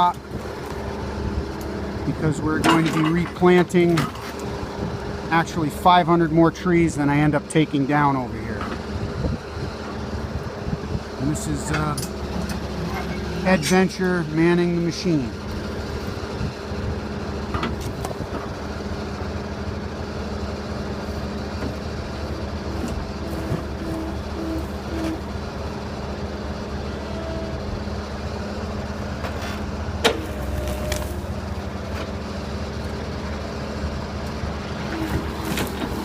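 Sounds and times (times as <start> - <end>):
heavy machine engine running: 0.0 - 36.0.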